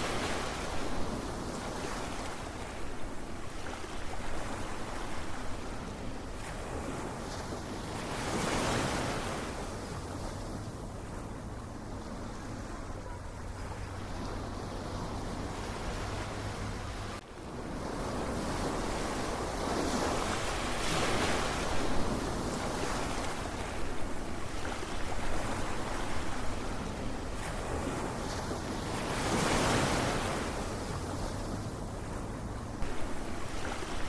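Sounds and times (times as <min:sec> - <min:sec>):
ocean waves washing: 0:00.0 - 0:34.0.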